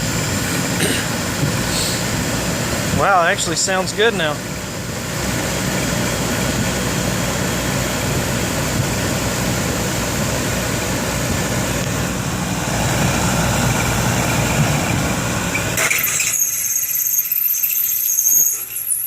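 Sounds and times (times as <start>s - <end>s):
compressor humming: 0.0s - 17.7s.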